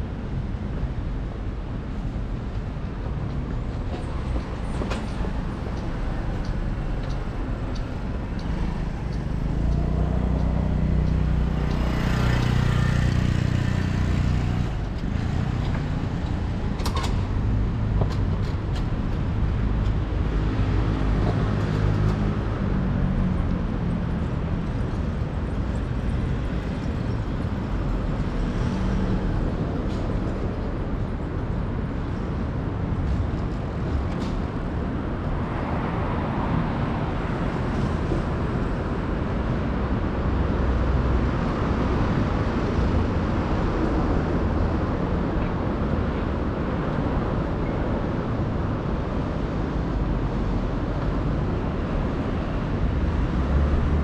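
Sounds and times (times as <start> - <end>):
passing vehicles rumbling: 0.0 - 54.0.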